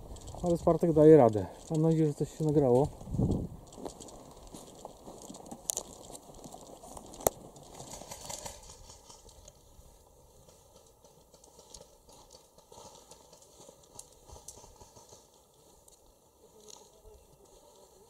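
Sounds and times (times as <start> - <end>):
rustling and crinkling of handling: 0.0 - 8.2, 10.4 - 18.0.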